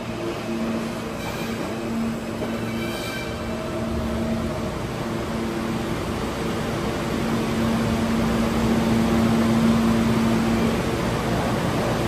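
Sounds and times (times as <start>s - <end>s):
subway platform hum and hiss: 0.0s - 12.0s.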